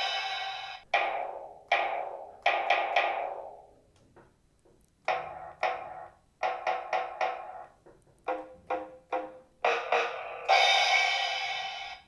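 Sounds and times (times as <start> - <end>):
toy electronic drum hits: 0.0 - 3.7, 5.0 - 12.0.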